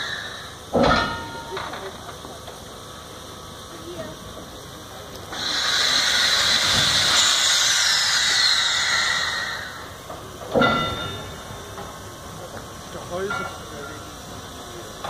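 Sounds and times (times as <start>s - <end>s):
locomotive steam hiss: 0.0s - 15.0s.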